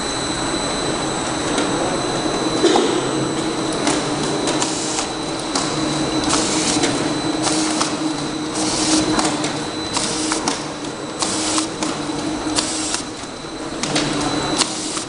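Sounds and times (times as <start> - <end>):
labeling machine humming: 0.0 - 15.0.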